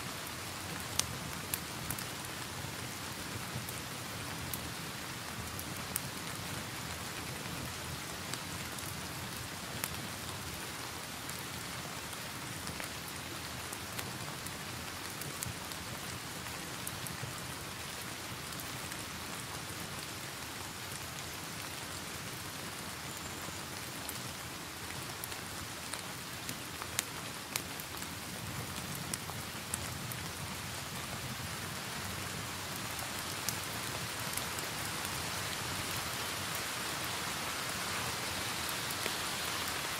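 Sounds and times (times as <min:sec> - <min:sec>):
steady rain hiss: 0:00.0 - 0:39.9
fireplace fire crackling: 0:00.2 - 0:21.7, 0:23.2 - 0:39.9.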